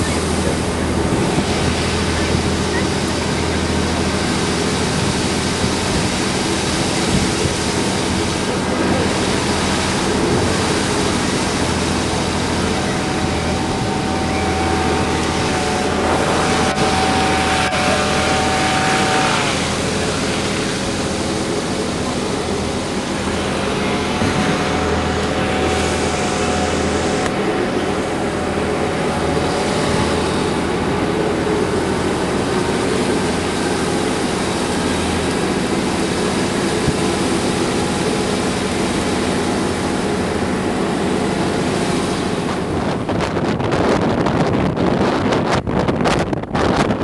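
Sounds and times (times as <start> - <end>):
bus diesel engine running: 0.0 - 45.8
steady whine: 0.0 - 47.0
wind rushing over microphone: 0.0 - 47.0.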